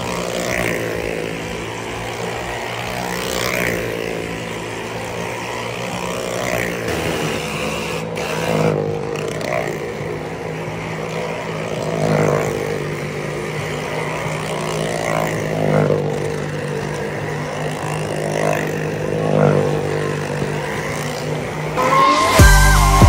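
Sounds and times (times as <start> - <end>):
vehicle engines running hard: 0.0 - 23.0.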